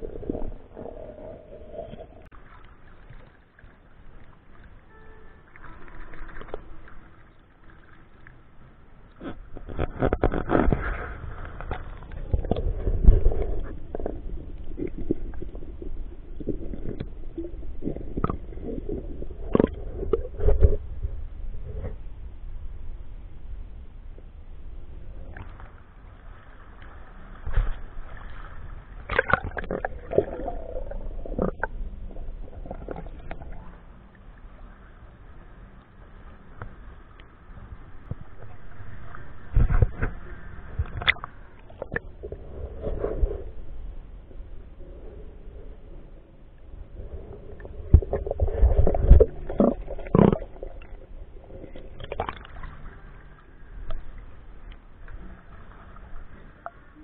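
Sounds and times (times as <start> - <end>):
water gurgling: 0.0 - 22.0, 25.0 - 57.0
underwater rumble of moving water: 0.0 - 57.0.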